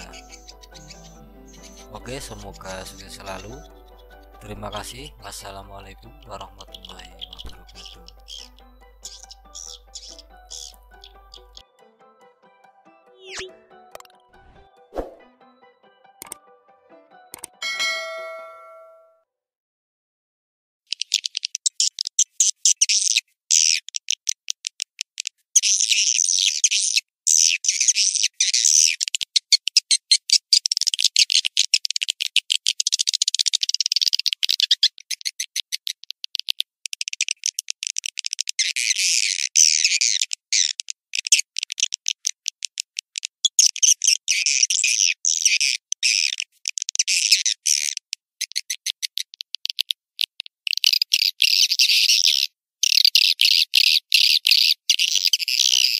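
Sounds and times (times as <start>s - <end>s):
swiftlet clicks and chirps: 0.0s - 11.6s, 13.2s - 14.3s, 16.2s - 16.4s, 17.3s - 17.6s, 20.9s - 55.9s.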